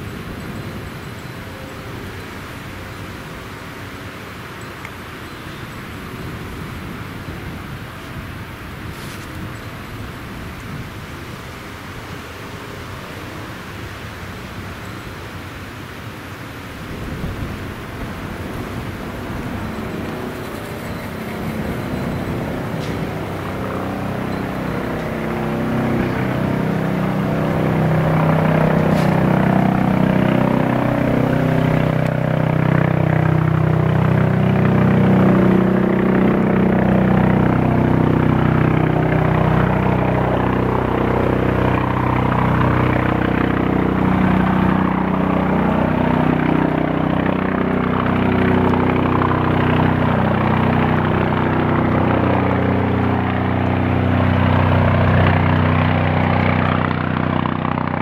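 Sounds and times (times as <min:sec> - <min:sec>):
helicopter rotor and turbine noise: 0:00.0 - 0:58.0.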